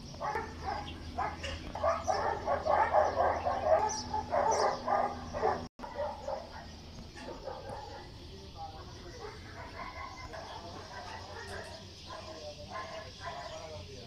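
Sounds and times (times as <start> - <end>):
animal calling: 0.0 - 14.0
steady low hum: 0.0 - 14.0.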